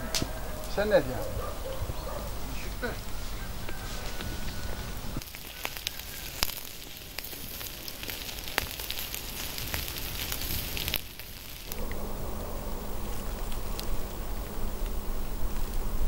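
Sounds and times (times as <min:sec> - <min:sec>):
fat crackling and popping: 0:00.0 - 0:16.0
meat sizzling over charcoal: 0:00.0 - 0:16.0.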